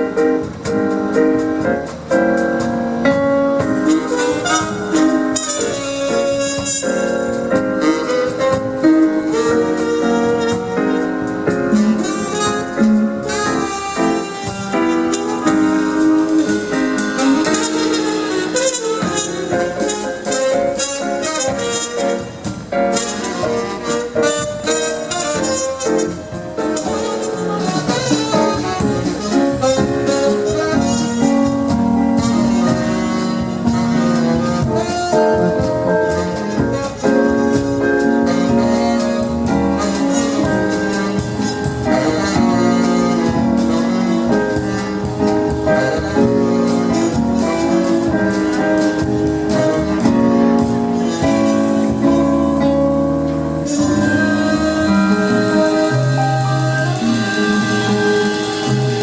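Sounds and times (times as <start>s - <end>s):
horn lines: 0.0s - 59.0s
live jazz band: 0.0s - 59.0s.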